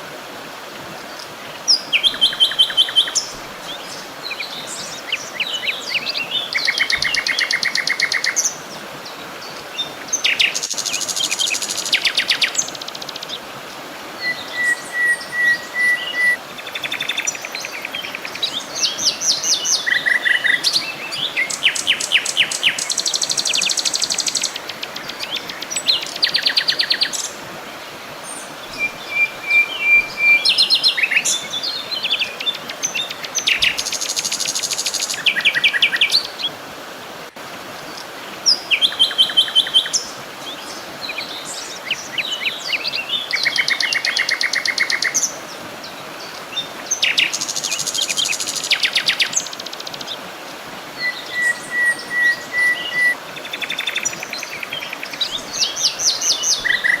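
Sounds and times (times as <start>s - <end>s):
background hiss: 0.0s - 57.0s
songbirds singing: 0.8s - 36.6s, 37.5s - 57.0s.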